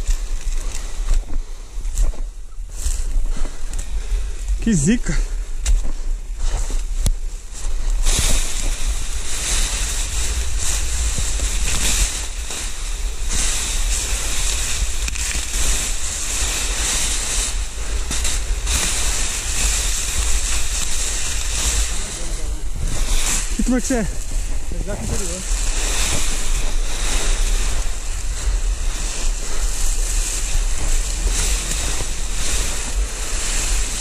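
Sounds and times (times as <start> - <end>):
balloon envelope rustling and crackling: 0.0 - 1.4, 6.8 - 34.0
low microphone rumble: 0.0 - 34.0.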